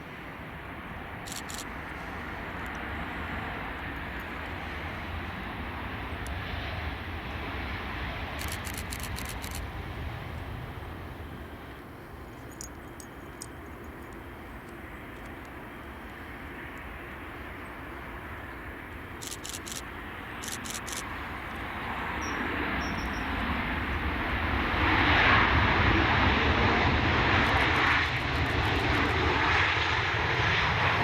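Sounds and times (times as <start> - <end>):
jet plane passing: 0.0 - 31.0.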